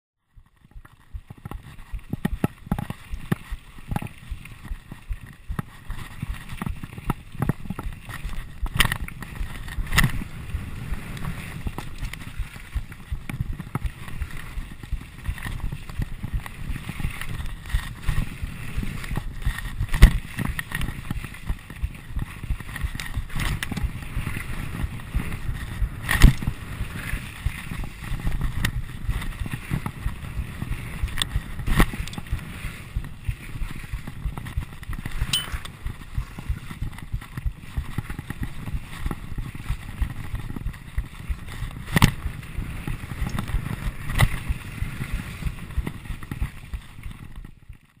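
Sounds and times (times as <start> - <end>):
rattling and crunching over stones: 0.4 - 44.7.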